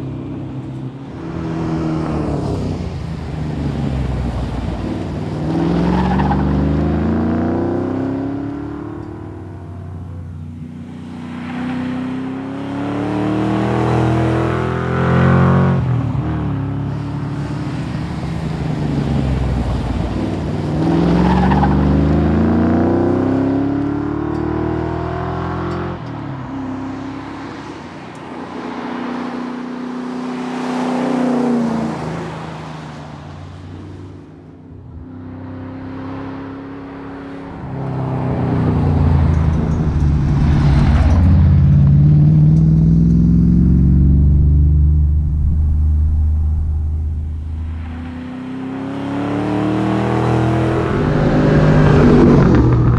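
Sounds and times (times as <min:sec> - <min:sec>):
rally car engine accelerating: 0:00.6 - 0:10.3, 0:11.5 - 0:27.5, 0:35.8 - 0:52.9.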